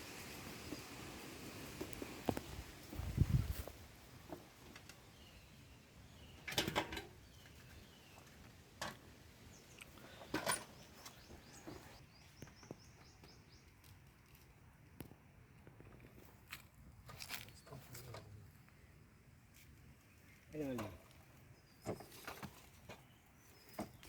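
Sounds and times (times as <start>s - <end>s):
faint birds chirping: 0.4s - 1.2s, 1.8s - 16.3s, 17.2s - 24.0s.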